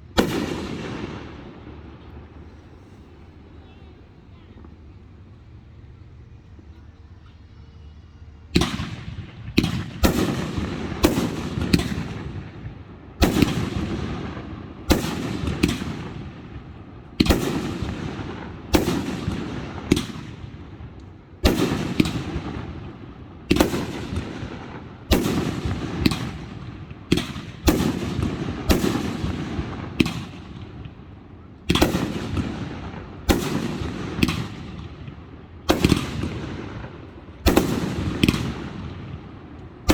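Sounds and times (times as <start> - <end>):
loud firework booms echoing: 0.0 - 2.9, 8.6 - 31.1, 31.7 - 39.9.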